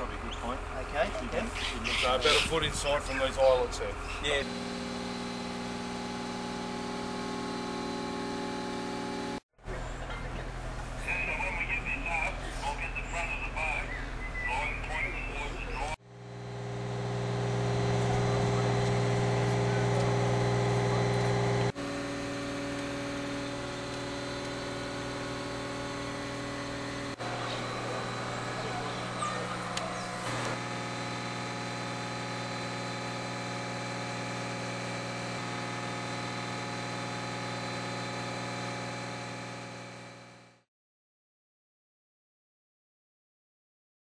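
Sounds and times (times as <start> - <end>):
diesel engine humming: 0.0 - 40.2.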